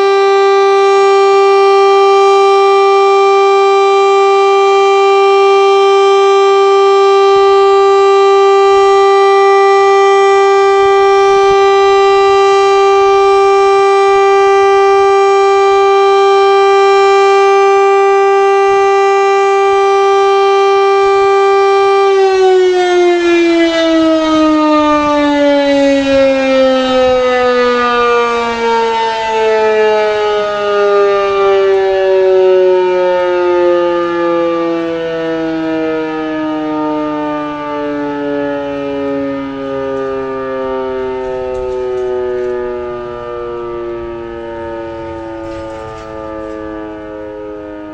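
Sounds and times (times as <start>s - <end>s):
civil defence siren: 0.0s - 47.9s.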